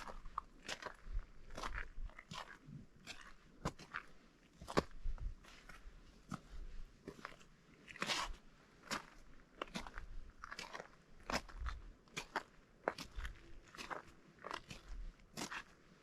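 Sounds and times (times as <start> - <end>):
footsteps crunching on snow: 0.0 - 15.9.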